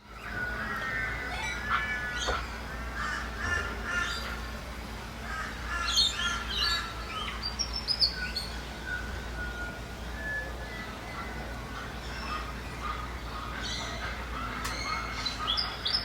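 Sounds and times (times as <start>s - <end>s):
birds dawn chorus: 0.0s - 16.0s
low steady rumble: 0.0s - 16.0s.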